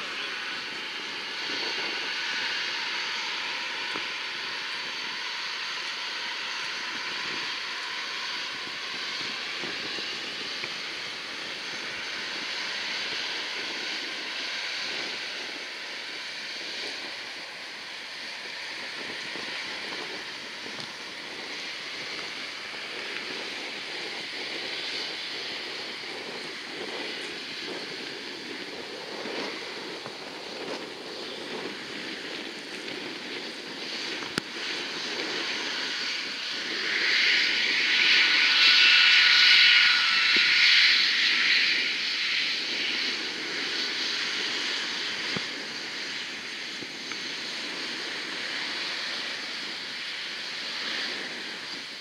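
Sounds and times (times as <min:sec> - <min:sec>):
jet engines hissing and whining: 0:00.0 - 0:52.0
wind buffeting microphone: 0:00.0 - 0:52.0.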